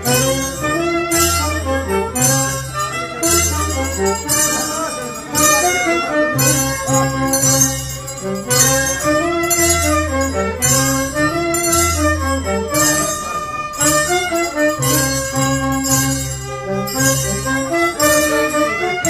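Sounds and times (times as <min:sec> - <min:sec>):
low bass line: 0:00.0 - 0:18.8
bells jingling: 0:00.0 - 0:19.0
harp: 0:00.0 - 0:19.0
saxophones playing dance tune: 0:00.0 - 0:19.0.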